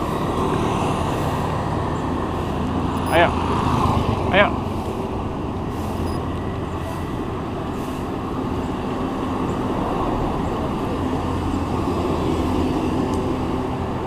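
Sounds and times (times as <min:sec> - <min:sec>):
road traffic: 0:00.0 - 0:14.0
wind rumble: 0:00.0 - 0:14.0.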